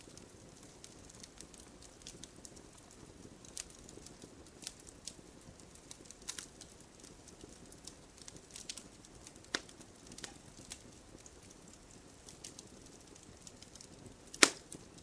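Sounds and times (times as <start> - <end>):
fire crackling in a fireplace: 0.0 - 15.0
low steady hiss: 0.0 - 15.0.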